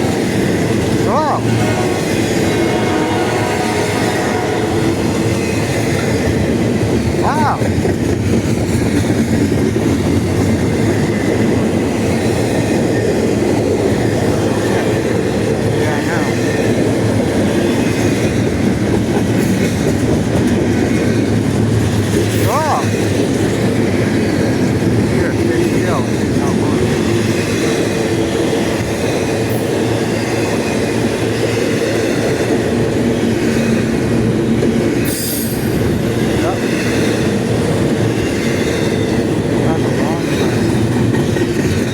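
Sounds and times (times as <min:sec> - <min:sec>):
freight train wheels on rail: 0:00.0 - 0:41.9.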